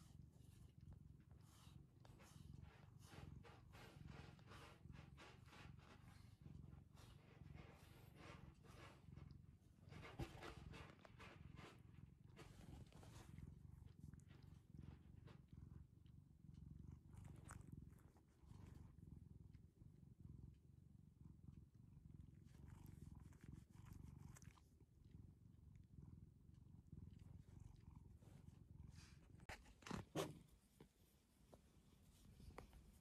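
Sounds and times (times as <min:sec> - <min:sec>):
cat purring: 0:00.0 - 0:33.0.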